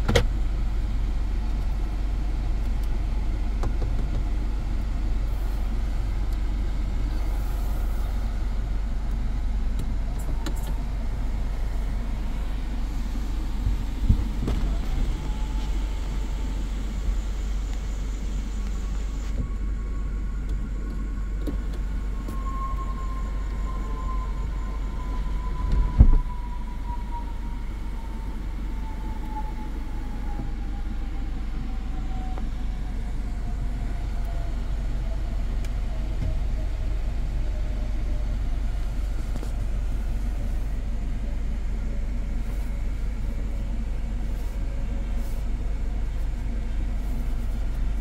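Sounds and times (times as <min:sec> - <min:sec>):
car cabin rumble: 0:00.0 - 0:48.0
faint whine falling in pitch: 0:06.2 - 0:45.1.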